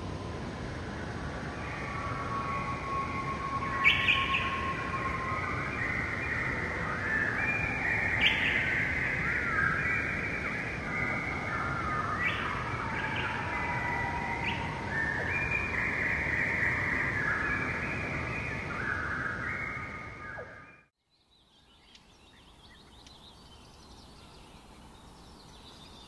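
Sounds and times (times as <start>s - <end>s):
birds singing: 1.5s - 26.0s.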